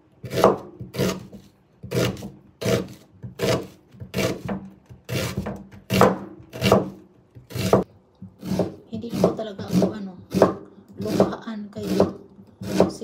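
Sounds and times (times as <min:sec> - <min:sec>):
knife slicing onion: 0:00.1 - 0:13.0.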